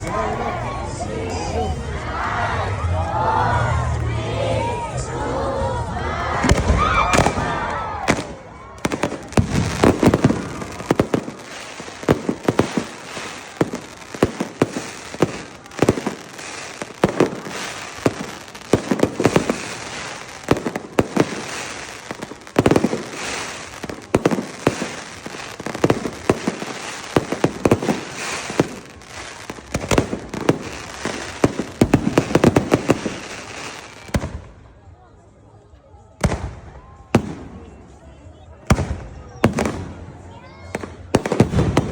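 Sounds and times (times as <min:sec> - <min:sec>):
fireworks booming and crackling: 0:06.4 - 0:34.9, 0:36.2 - 0:41.9.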